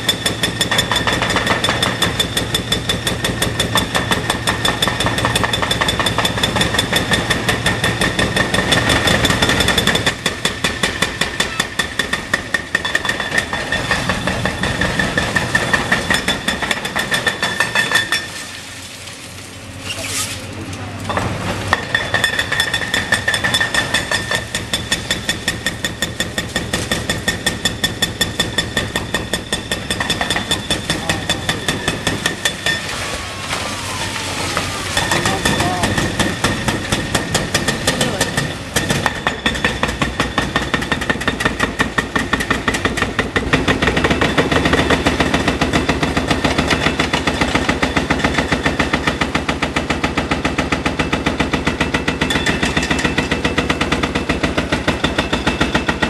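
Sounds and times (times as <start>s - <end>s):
hydraulic breaker hammering concrete: 0.0s - 18.5s, 21.1s - 56.0s
excavator engine: 0.0s - 56.0s.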